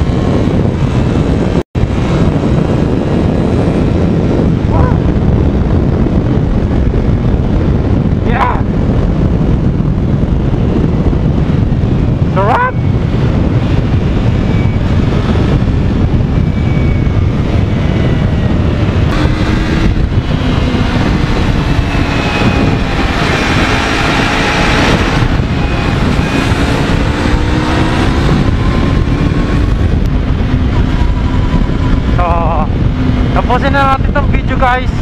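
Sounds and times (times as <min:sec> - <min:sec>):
motorcycle engine: 0:00.0 - 0:35.0
wind rush on microphone: 0:00.0 - 0:35.0.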